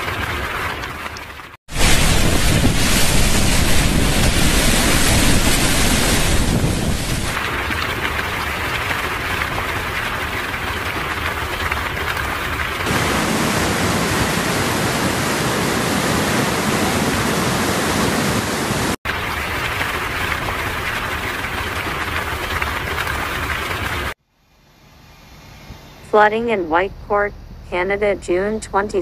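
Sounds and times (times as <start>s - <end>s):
rushing floodwater and heavy rain: 0.0s - 24.2s.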